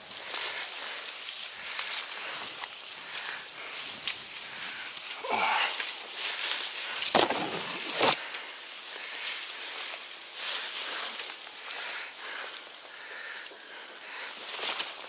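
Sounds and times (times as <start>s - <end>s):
dry grass rustling and crackling: 0.0s - 15.0s.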